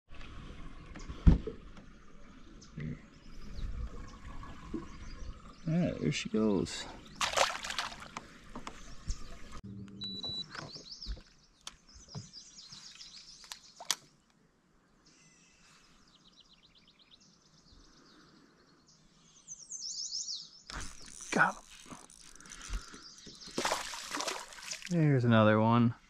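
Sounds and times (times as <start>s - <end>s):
songbirds chirping and trilling: 0.5s - 26.0s.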